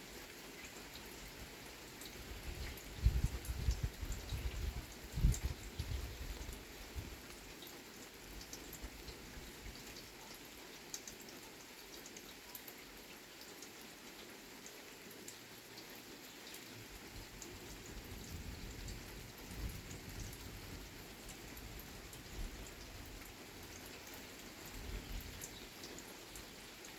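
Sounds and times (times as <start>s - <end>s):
steady rain: 0.0s - 26.9s.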